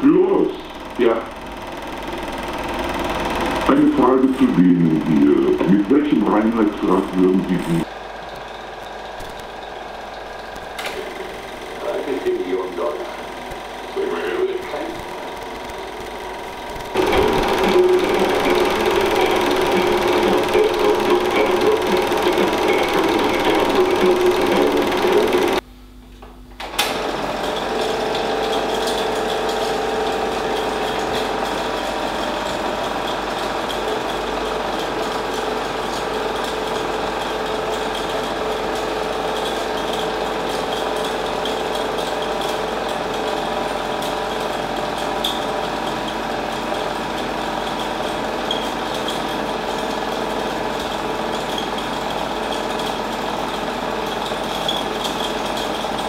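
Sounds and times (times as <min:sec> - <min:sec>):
film projector whirring: 0:00.0 - 0:25.7, 0:26.5 - 0:56.0.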